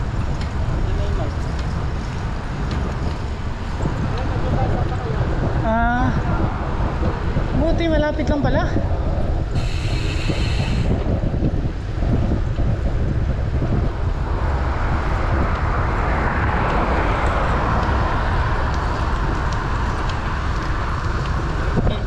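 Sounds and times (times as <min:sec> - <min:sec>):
rushing road noise: 0:00.0 - 0:22.0
wind buffeting microphone: 0:00.0 - 0:22.0.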